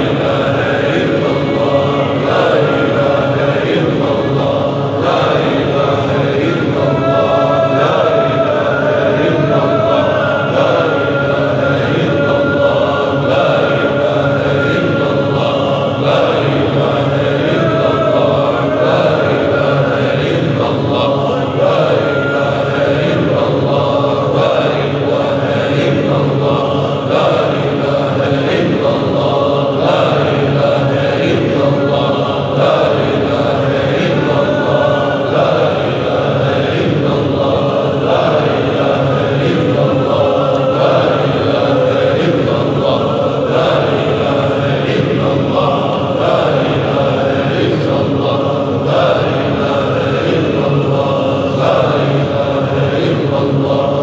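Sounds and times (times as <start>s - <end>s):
men chanting in unison: 0.0s - 54.0s.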